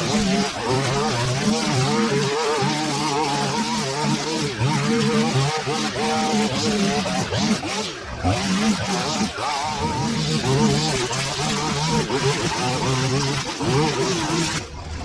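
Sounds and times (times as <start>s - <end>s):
line trimmer cutting grass: 0.0s - 15.0s.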